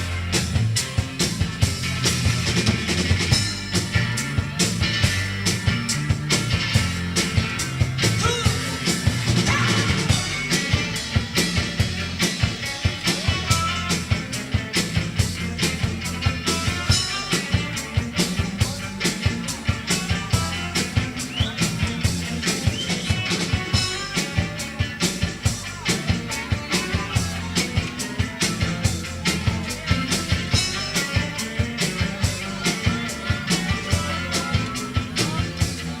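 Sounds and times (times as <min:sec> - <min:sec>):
bass guitar: 0:00.0 - 0:36.0
drum kit fast beat: 0:00.0 - 0:36.0
electric guitar: 0:00.0 - 0:36.0.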